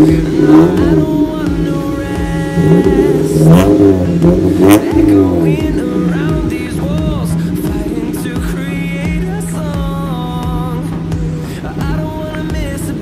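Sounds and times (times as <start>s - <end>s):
electronic pop music: 0.0s - 13.0s.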